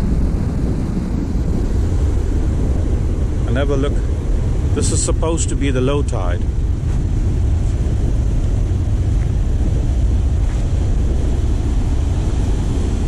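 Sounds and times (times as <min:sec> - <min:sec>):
surf breaking on rocky shore: 0:00.0 - 0:13.0
wind buffeting microphone: 0:00.0 - 0:13.0.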